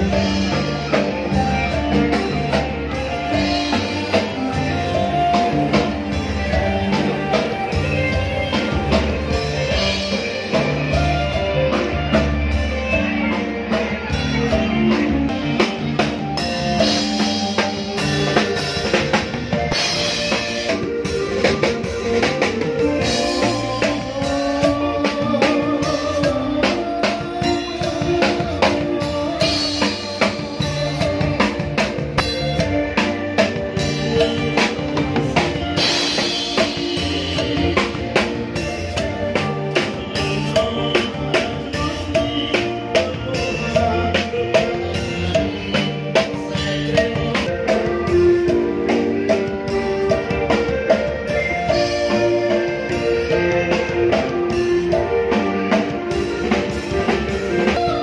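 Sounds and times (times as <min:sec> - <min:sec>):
drum kit beat: 0:00.0 - 0:58.0
electric guitar: 0:00.0 - 0:58.0
person singing: 0:00.0 - 0:58.0.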